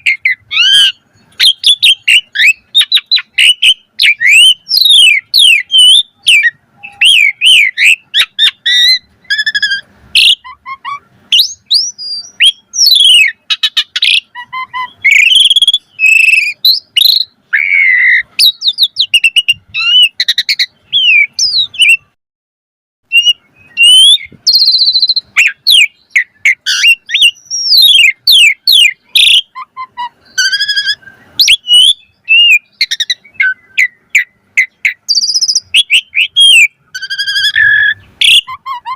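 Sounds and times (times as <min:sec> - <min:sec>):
starling singing: 0:00.0 - 0:22.2, 0:23.1 - 0:38.9.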